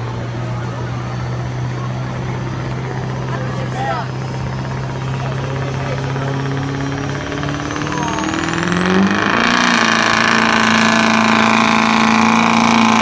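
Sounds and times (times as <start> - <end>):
high whine: 0.0 - 13.0
pickup engine at full throttle: 0.0 - 13.0.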